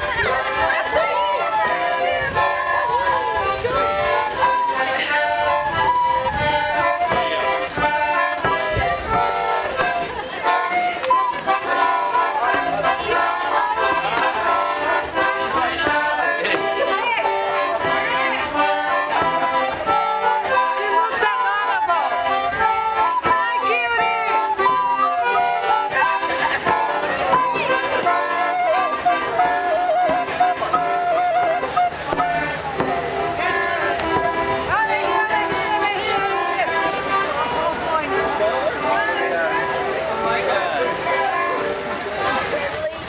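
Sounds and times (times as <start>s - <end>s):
button accordion: 0.0s - 43.0s
wooden flute melody: 0.0s - 43.0s
wooden pipe playing tune: 0.0s - 43.0s.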